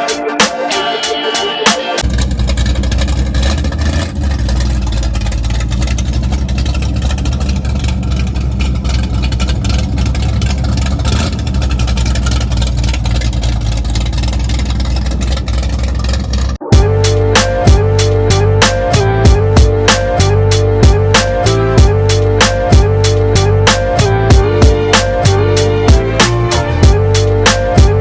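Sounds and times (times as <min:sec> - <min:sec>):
car engine rumbling: 0:02.0 - 0:28.0.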